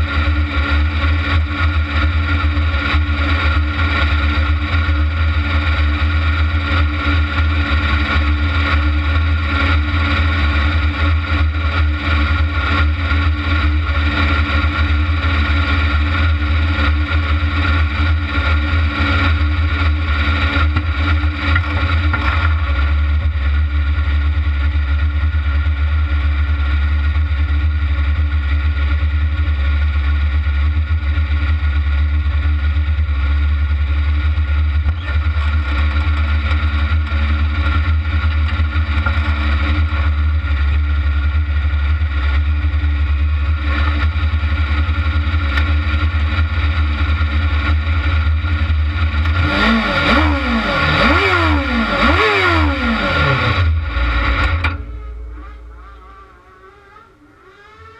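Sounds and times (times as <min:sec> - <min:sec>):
buggy engine running at low revs: 0:00.0 - 0:57.9.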